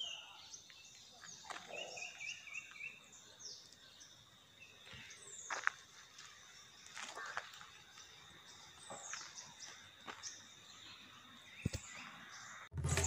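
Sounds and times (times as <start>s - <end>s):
birds chirping and whistling: 0.0s - 12.7s.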